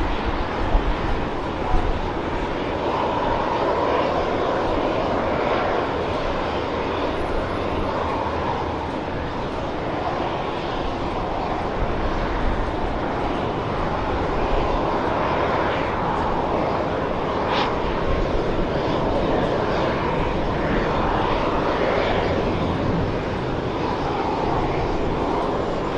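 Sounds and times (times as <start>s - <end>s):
jet engines roaring: 0.0s - 25.9s.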